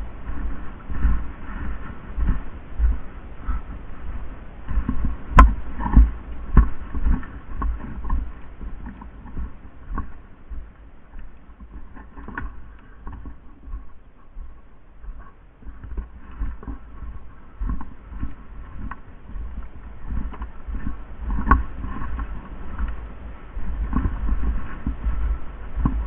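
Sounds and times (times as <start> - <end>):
footsteps: 0.0 - 26.0.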